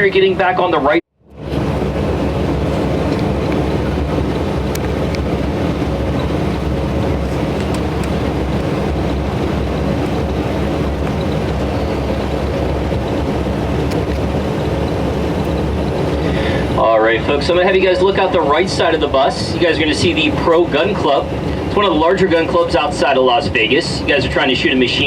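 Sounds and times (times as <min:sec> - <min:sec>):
bus engine hum and road noise: 0:00.0 - 0:25.0.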